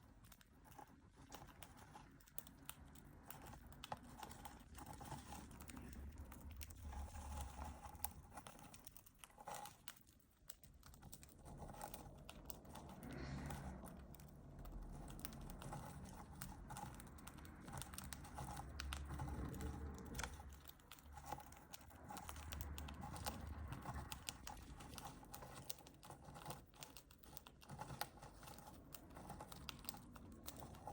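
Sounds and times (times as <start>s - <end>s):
birds pecking at seeds: 0.0s - 30.9s
small clicks and rustles: 0.0s - 30.9s.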